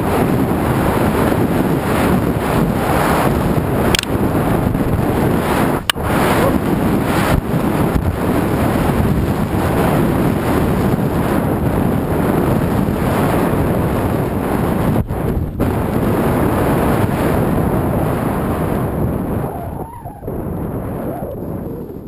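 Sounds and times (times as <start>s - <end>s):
wind on microphone: 0.0s - 22.0s.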